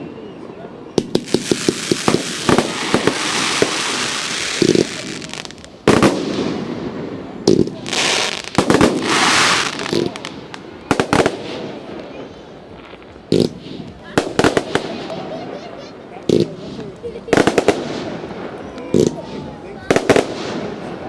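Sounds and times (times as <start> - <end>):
fireworks bangs and crackles: 0.4 - 21.0.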